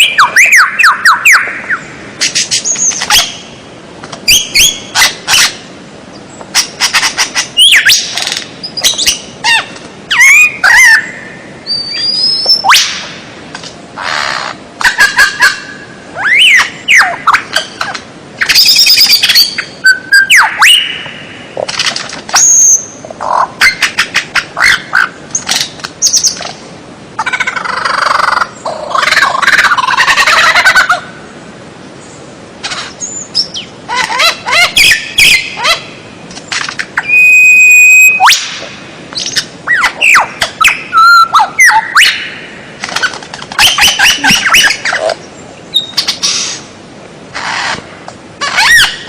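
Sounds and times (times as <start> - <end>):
songbird singing: 0.0 - 13.4, 14.0 - 21.7, 22.3 - 46.8.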